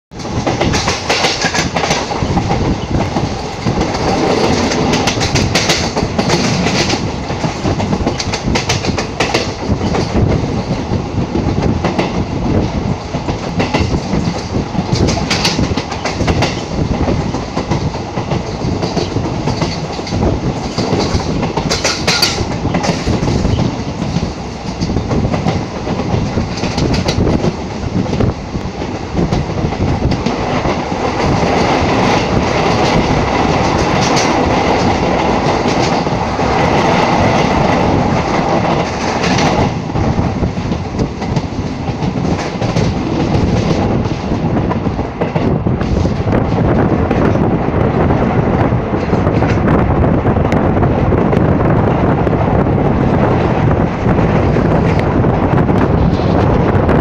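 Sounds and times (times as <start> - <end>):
train rumble inside coach: 0.1 - 57.0
wheels clicking on rails: 0.2 - 52.3.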